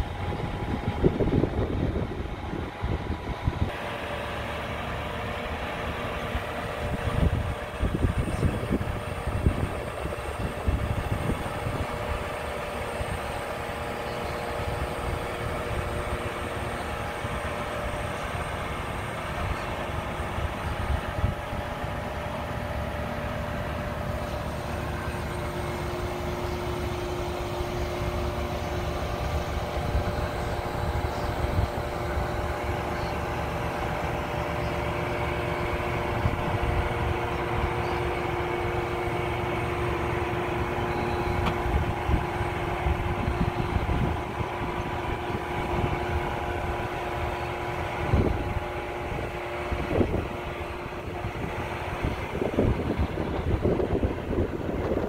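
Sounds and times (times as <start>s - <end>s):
hydraulic crane whining: 0.0s - 55.0s
lorry engine running: 0.0s - 55.0s
lower hydraulic whine: 0.0s - 55.0s.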